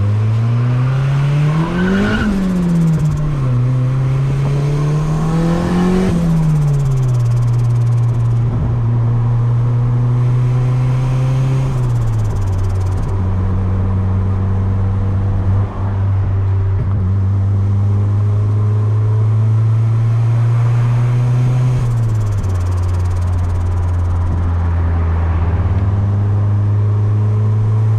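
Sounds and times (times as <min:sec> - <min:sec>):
car engine running at low revs: 0:00.0 - 0:27.9.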